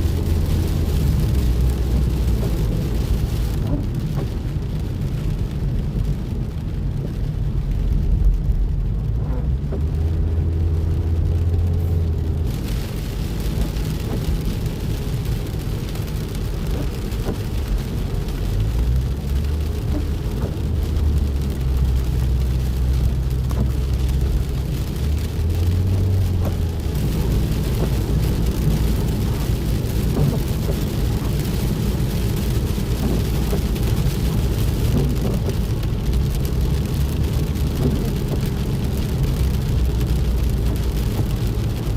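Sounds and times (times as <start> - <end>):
car rumble and hum: 0.0 - 41.9
rain hissing: 0.0 - 41.9.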